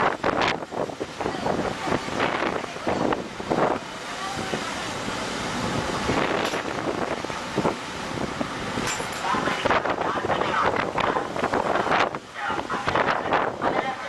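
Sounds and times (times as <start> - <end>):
steady rushing noise: 0.0 - 14.0
wind buffeting microphone: 0.0 - 14.0.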